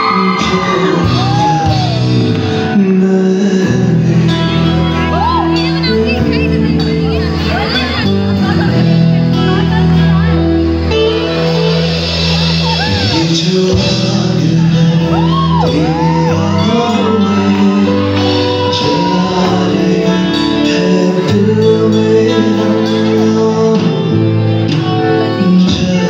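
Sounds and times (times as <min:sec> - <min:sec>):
man singing into a microphone: 0:00.0 - 0:10.5, 0:12.5 - 0:26.0
drums: 0:00.0 - 0:26.0
keyboards: 0:00.0 - 0:26.0.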